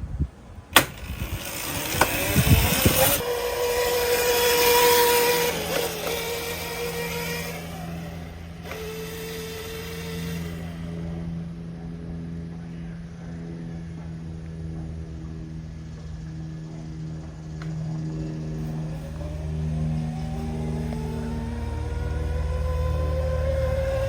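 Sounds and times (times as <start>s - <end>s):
electric motorcycle motor whine: 0.6s - 24.0s.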